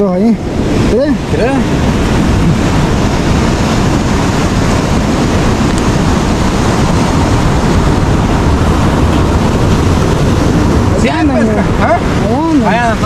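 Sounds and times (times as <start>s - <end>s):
ocean surf breaking: 0.0s - 13.0s
wind rumbling on microphone: 0.0s - 13.0s.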